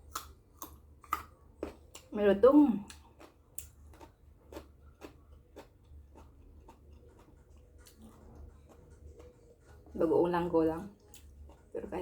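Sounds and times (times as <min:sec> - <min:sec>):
crunchy fruit being chewed: 0:00.0 - 0:10.0, 0:10.8 - 0:12.0
steady low hum: 0:00.0 - 0:12.0.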